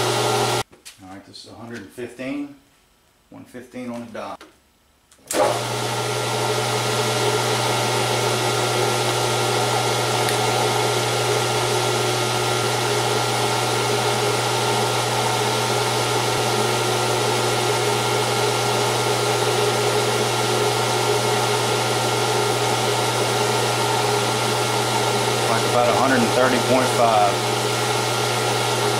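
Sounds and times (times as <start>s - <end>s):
metal lathe humming: 0.0s - 0.6s, 5.4s - 28.9s.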